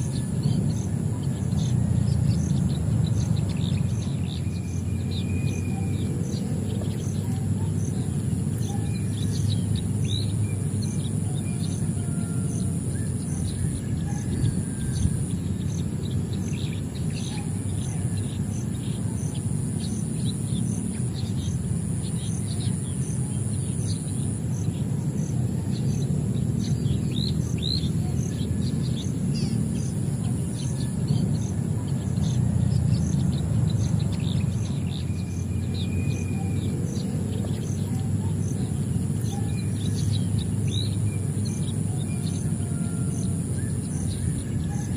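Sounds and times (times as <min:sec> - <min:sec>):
birds chirping: 0:00.0 - 0:44.9
low background rumble: 0:00.0 - 0:44.9.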